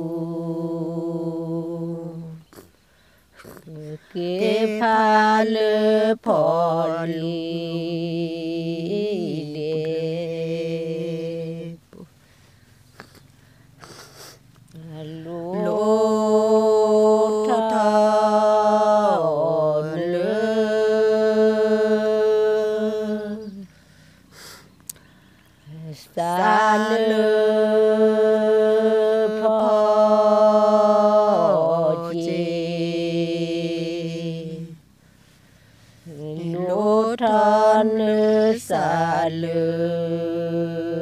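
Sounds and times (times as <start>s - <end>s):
woman chanting unaccompanied: 0.0s - 12.1s, 14.7s - 23.8s, 25.5s - 34.9s, 36.0s - 41.0s.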